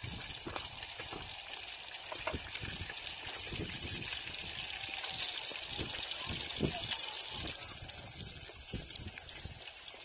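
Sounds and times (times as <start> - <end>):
bacon sizzling in frying pan: 0.0 - 10.0.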